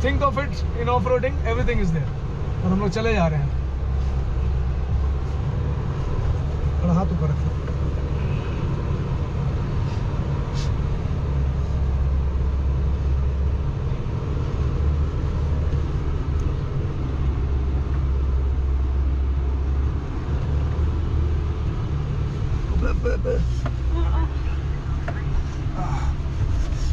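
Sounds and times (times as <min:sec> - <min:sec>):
engine and road rumble: 0:00.0 - 0:26.9.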